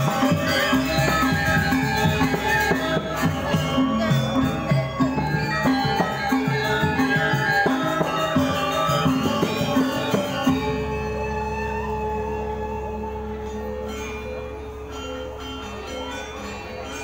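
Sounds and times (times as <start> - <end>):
gamelan metallophones playing: 0.0 - 17.0.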